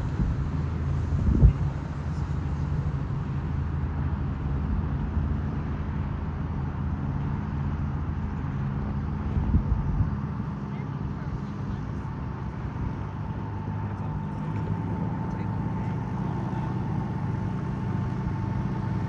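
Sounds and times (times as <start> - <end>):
aircraft engines droning: 0.0 - 19.0.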